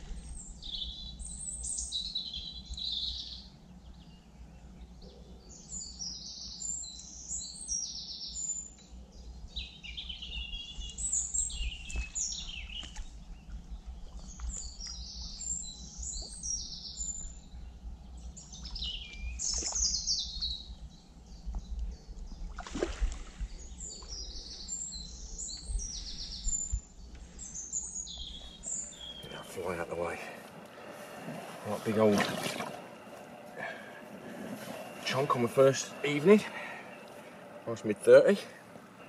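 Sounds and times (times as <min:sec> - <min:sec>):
birds singing and chirping: 0:00.0 - 0:39.0.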